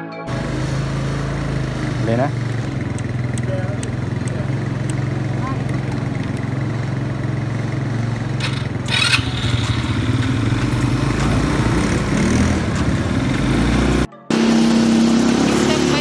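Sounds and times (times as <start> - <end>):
rasping engine burst: 0.3 - 5.4, 6.1 - 16.0
deep engine rumble: 0.3 - 16.0
quad bike engines idling: 0.3 - 16.0.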